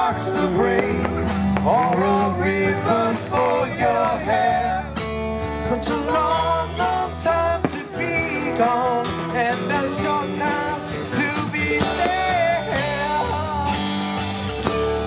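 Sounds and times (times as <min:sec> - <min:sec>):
person singing: 0:00.0 - 0:14.4
bass line: 0:00.0 - 0:15.0
guitar: 0:00.0 - 0:15.0.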